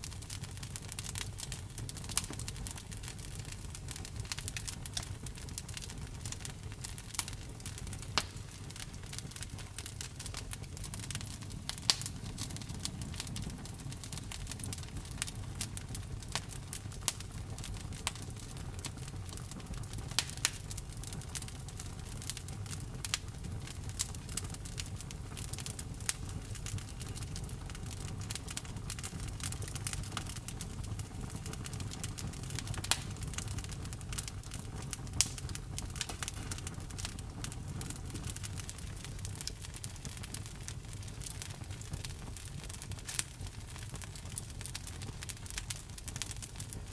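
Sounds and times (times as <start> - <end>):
fire low rumble: 0.0 - 46.9
wood crackling and popping: 0.0 - 46.9.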